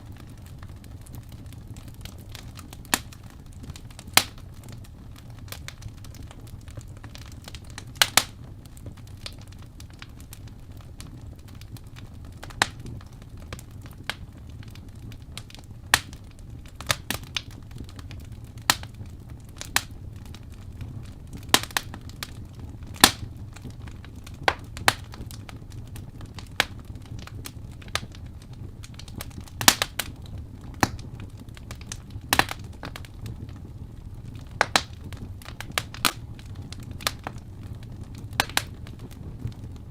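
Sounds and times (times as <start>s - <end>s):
fire flames rumbling: 0.0s - 39.9s
logs crackling and popping: 0.0s - 39.9s.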